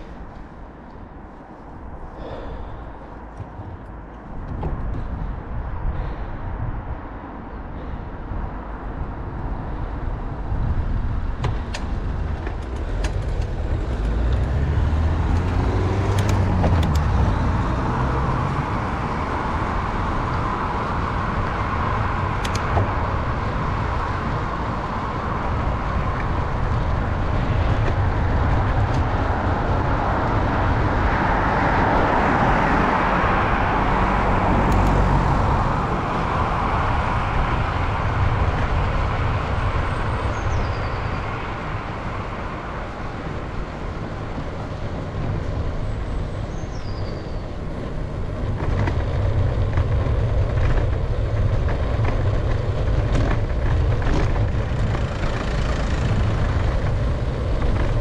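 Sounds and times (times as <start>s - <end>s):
cars passing: 0.0s - 58.0s
tyre and wind rumble: 0.0s - 58.0s.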